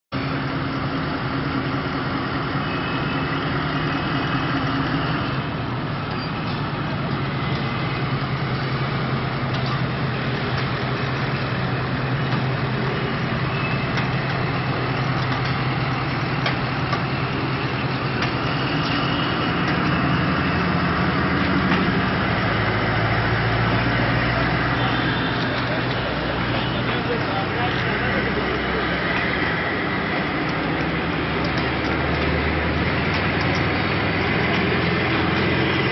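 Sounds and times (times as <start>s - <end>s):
diesel locomotive engine drone: 0.2s - 35.9s
train moving slowly past: 0.2s - 35.9s.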